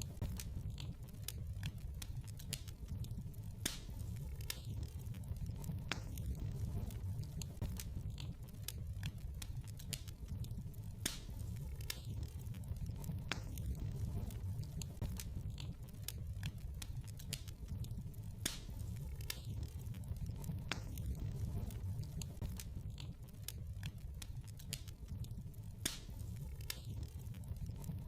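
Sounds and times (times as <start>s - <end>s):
low rumble of flames: 0.0s - 28.0s
sharp pops of fire: 0.0s - 28.0s
wood fire crackling: 0.0s - 28.0s.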